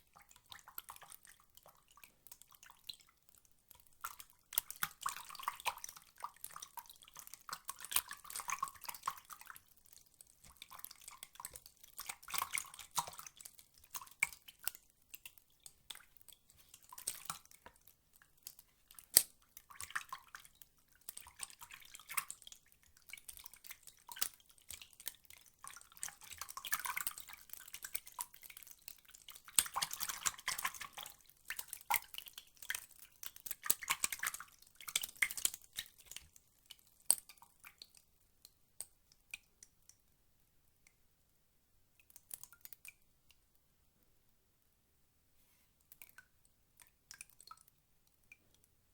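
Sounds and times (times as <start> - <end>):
water dripping and splashing: 0.0 - 40.1, 45.9 - 48.7.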